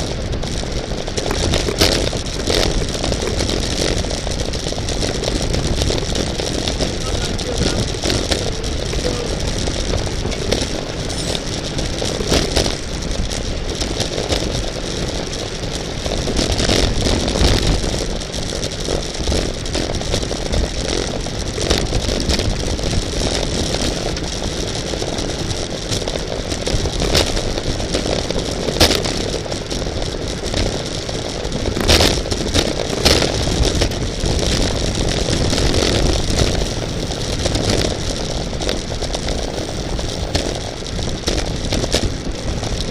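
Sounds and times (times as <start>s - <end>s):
bicycle road noise: 0.0s - 42.9s
wind rush: 0.0s - 42.9s
rattles and clicks: 0.4s - 29.5s, 30.3s - 42.9s.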